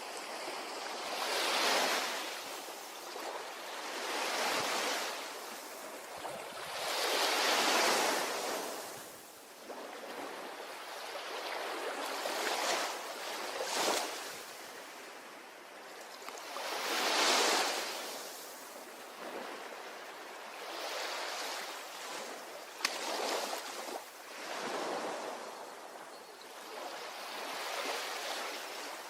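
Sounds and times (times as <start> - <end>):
ocean waves breaking on a beach: 0.0 - 29.0.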